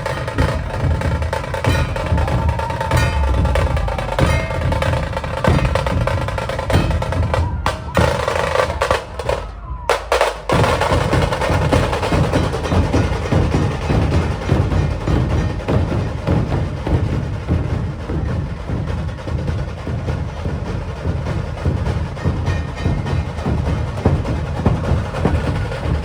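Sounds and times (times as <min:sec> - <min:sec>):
deep drum strokes: 0:00.0 - 0:26.0
rapid snare drum rolls: 0:00.0 - 0:26.0.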